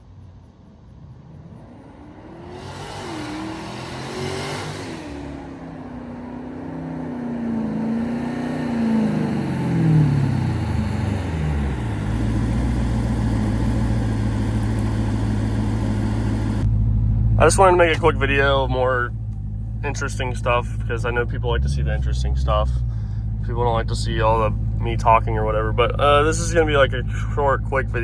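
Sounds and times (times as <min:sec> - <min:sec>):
car engine revving: 0:00.8 - 0:28.0.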